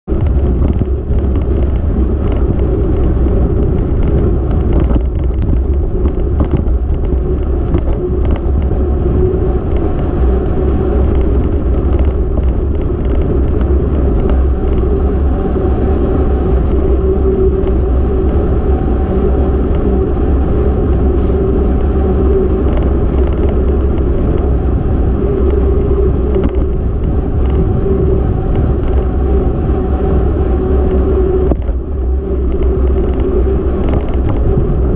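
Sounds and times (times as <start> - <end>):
low road rumble: 0.0 - 34.9
wind rush on microphone: 0.0 - 34.9.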